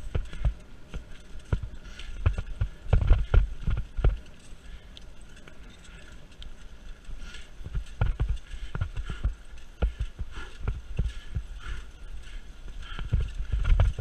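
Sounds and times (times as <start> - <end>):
mountain bike rattling and knocking: 0.0 - 14.0.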